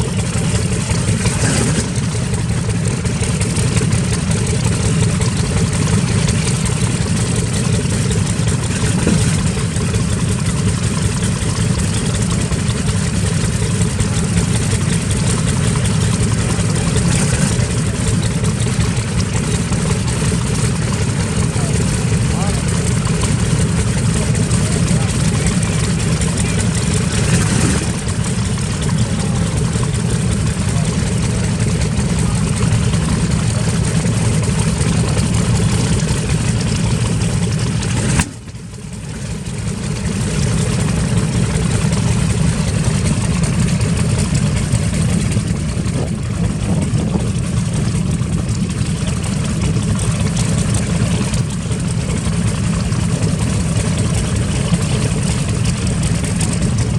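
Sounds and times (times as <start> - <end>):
radial aircraft engine running: 0.0 - 56.9.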